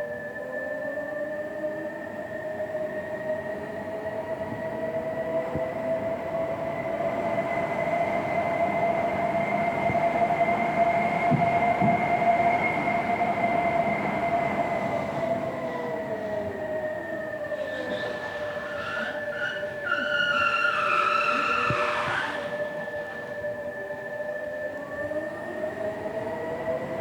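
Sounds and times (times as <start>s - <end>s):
electric car whine: 0.0s - 27.0s.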